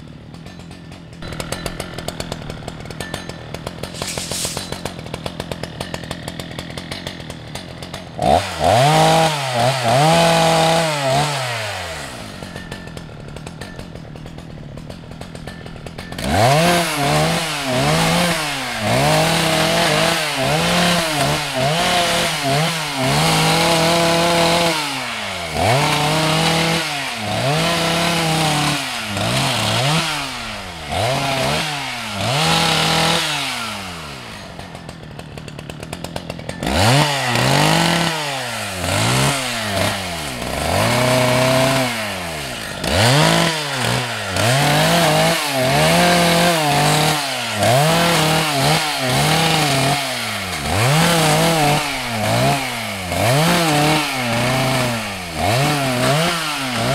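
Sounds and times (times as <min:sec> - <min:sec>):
chainsaw revving: 0:00.0 - 0:56.9
chainsaw ticking idle: 0:00.0 - 0:56.9.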